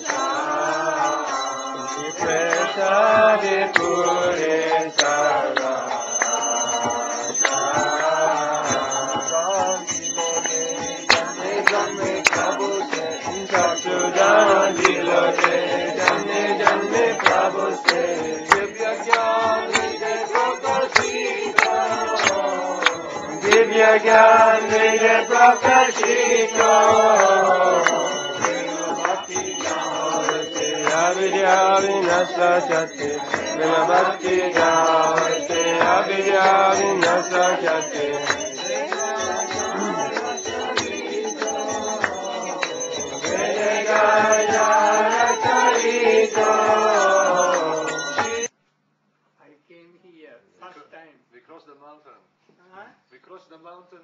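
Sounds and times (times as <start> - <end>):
devotional chanting: 0.0 - 48.5
instrumental accompaniment: 0.0 - 48.5.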